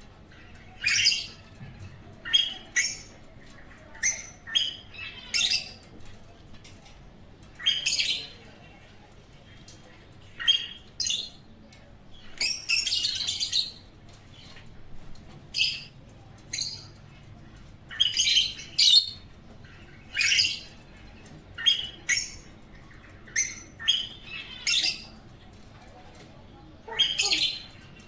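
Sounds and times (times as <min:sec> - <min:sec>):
birds chirping high-pitched: 0:00.0 - 0:28.0.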